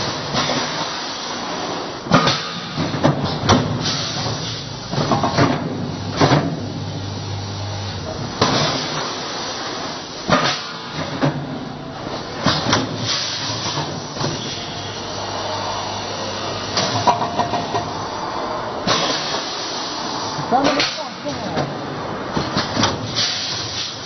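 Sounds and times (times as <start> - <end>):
pneumatic clacks and hisses: 0.0 - 6.7, 8.0 - 15.0, 16.0 - 21.7, 22.3 - 24.0
steady machine hum: 2.8 - 22.4.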